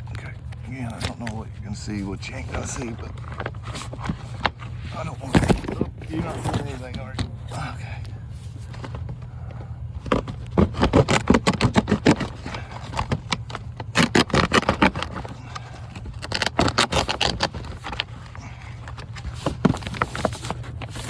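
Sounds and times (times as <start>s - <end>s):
steady low hum: 0.0s - 21.0s
scraping and rustling of crawling: 0.2s - 21.0s.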